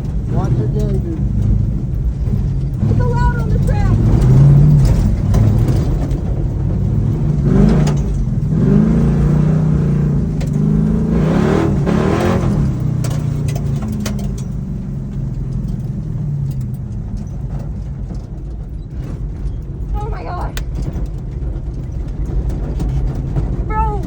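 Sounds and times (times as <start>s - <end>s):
light clatters: 0.0s - 11.1s, 11.8s - 24.0s
truck engine revving: 0.0s - 24.0s.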